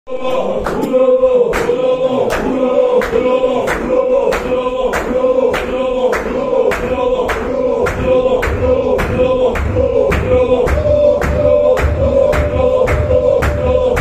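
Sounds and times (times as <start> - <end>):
men chanting in unison: 0.1 - 14.0
sharp rhythmic beats: 0.1 - 14.0.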